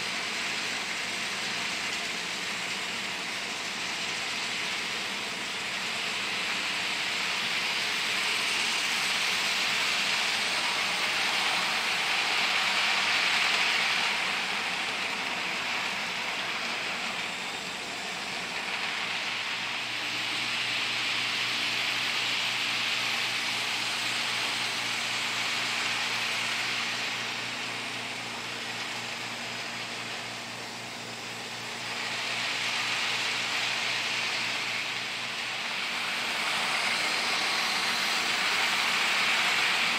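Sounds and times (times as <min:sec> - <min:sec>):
model train whirring: 0:00.0 - 0:39.9.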